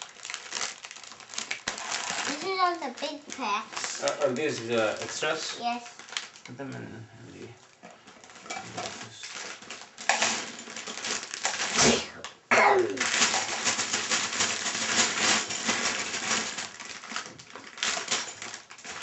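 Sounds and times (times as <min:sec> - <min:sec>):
plastic pieces clattering: 0:00.0 - 0:06.5, 0:08.0 - 0:19.0.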